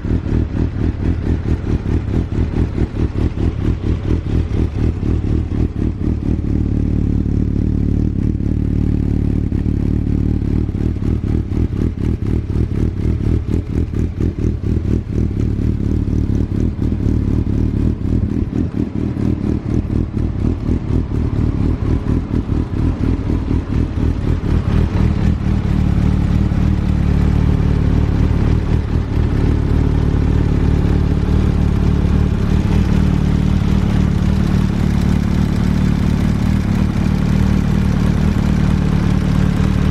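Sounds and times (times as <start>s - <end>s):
motorcycle engine exhaust beat: 0.0s - 39.9s.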